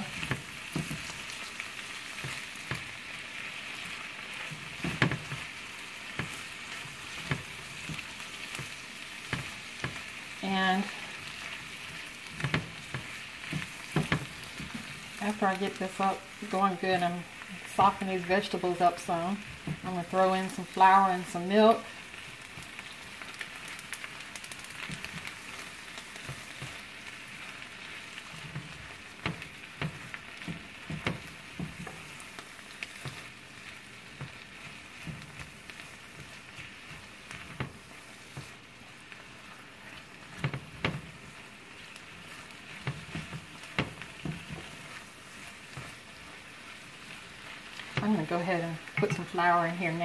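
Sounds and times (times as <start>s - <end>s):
spatula scraping and tapping pan: 0.0s - 50.0s
vegetables sizzling in a skillet: 0.0s - 50.0s.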